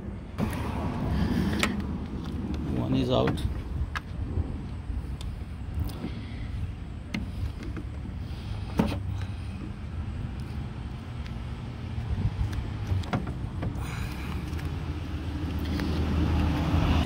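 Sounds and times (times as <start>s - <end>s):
low rumble: 0.0s - 15.8s.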